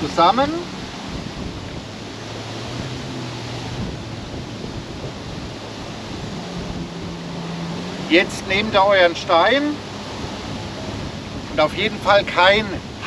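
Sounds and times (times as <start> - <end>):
river water rushing: 0.0 - 13.0
wind: 0.0 - 13.0.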